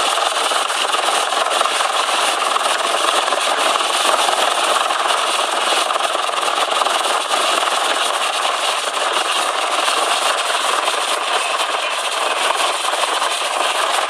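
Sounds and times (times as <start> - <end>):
helicopter hovering overhead: 0.0 - 14.0.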